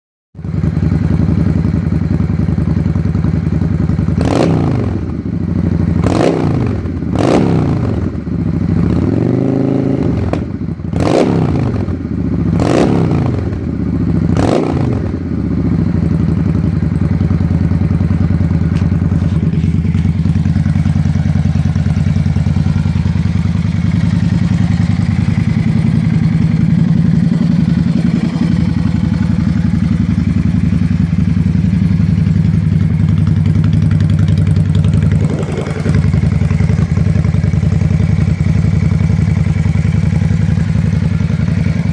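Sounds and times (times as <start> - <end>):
motorcycle engine idling and revving: 0.4 - 41.9.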